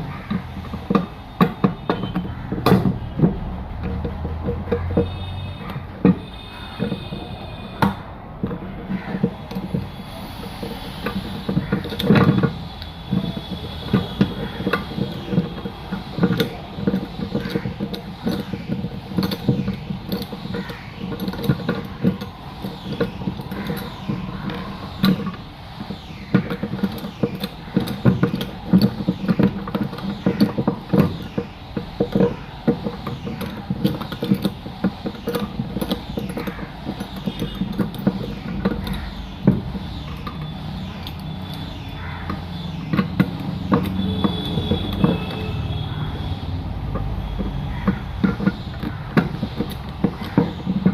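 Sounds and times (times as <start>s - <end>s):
hand tools clicking and ratcheting: 0.0s - 50.9s
metal parts scraping and knocking: 0.0s - 50.9s.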